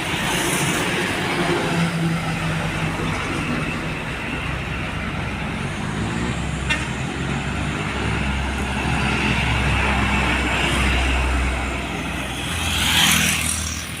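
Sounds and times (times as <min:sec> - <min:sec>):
diesel truck engines droning: 0:00.0 - 0:14.0
traffic noise: 0:00.0 - 0:14.0.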